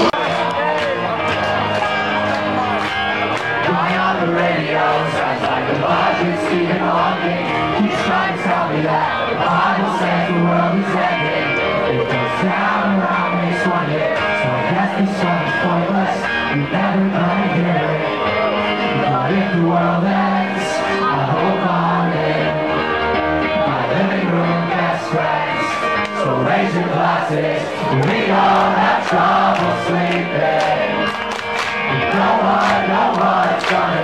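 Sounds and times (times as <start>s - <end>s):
person singing: 0.0s - 31.2s, 31.9s - 34.0s
crowd voices: 0.0s - 34.0s
live rock band playing: 0.0s - 34.0s.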